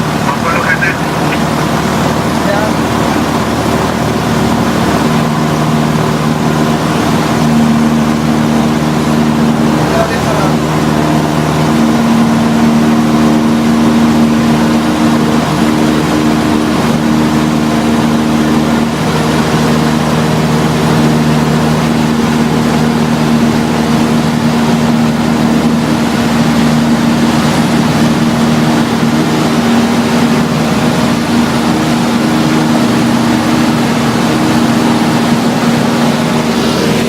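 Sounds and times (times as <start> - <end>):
propeller aircraft engine drone: 0.0 - 37.0.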